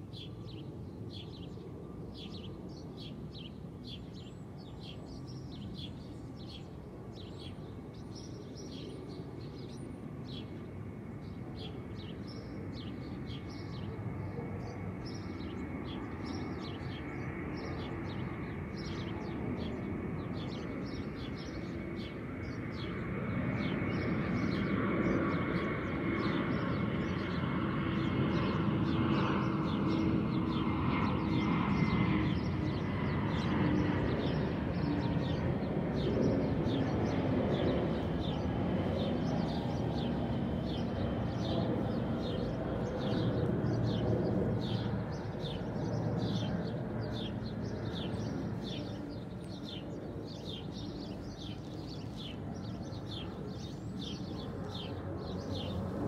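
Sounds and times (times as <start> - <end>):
airplane passing overhead: 0.0 - 56.0
small birds chirping: 0.1 - 56.0.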